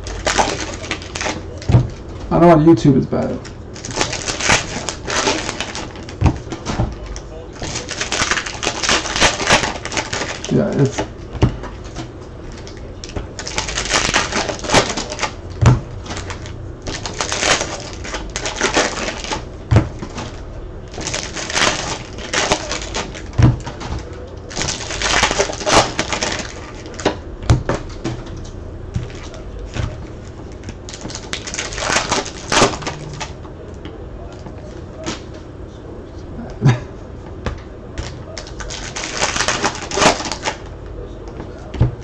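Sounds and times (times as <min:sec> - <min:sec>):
packaging crinkling: 0:00.0 - 0:02.4, 0:03.2 - 0:33.4, 0:38.0 - 0:40.7.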